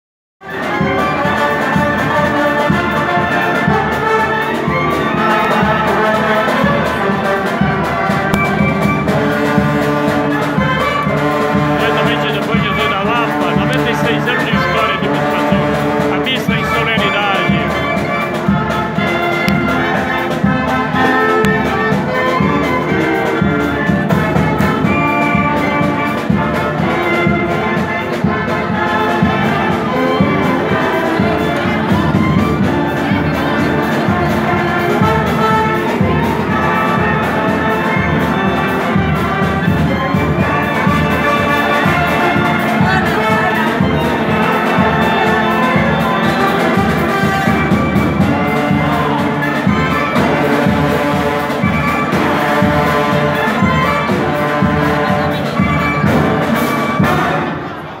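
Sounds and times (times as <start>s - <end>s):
brass band playing: 0.4s - 58.0s
steady drum beat: 0.5s - 57.5s.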